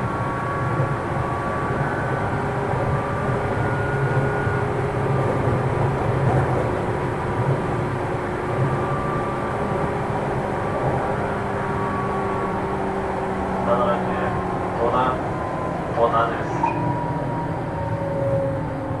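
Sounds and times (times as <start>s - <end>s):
train wheel and rail rumble: 0.0s - 19.0s.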